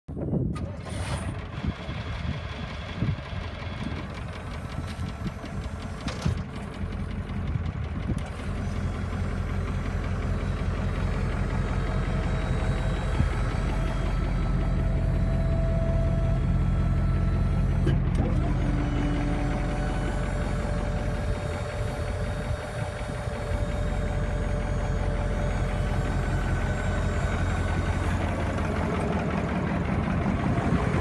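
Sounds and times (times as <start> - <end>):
diesel truck engine idling: 0.5 - 31.0.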